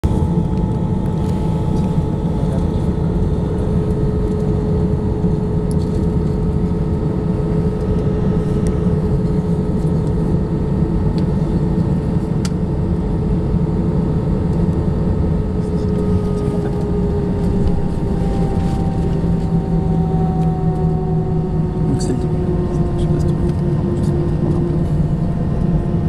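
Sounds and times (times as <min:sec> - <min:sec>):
aircraft cabin engine hum: 0:00.0 - 0:26.0.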